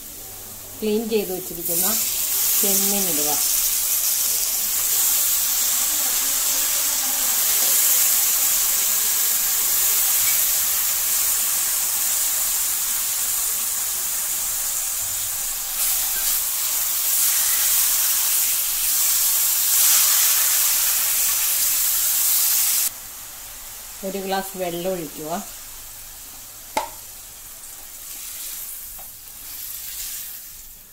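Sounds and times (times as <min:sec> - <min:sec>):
prawns sizzling in a pot: 0:00.0 - 0:30.9.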